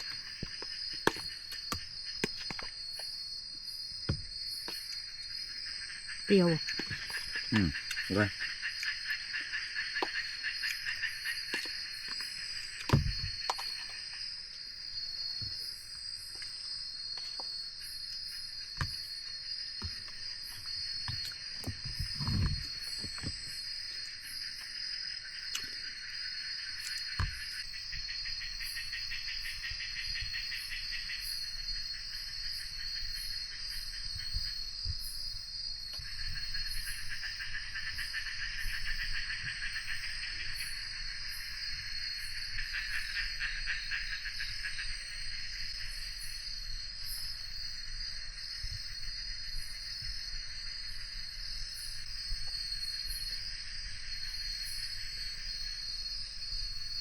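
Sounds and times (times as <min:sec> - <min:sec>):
insects droning and trilling: 0:00.0 - 0:57.0.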